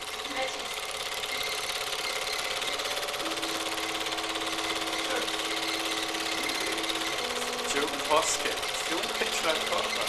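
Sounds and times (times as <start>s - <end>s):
film projector clattering: 0.0s - 10.0s.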